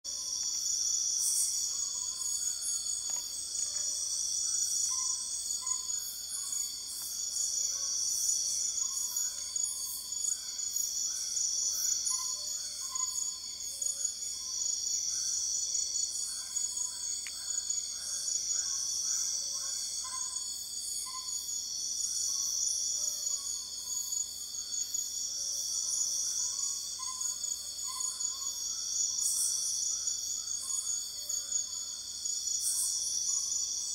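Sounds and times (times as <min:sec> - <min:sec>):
crickets and insects trilling: 0:00.1 - 0:33.9.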